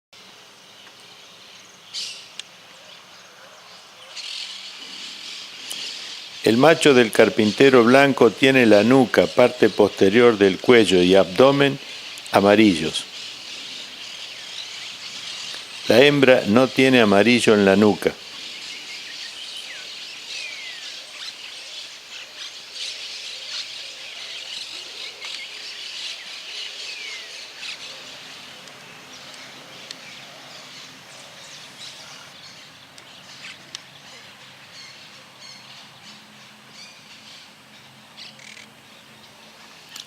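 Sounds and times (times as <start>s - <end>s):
birds chirping and calling: 0.7s - 40.0s.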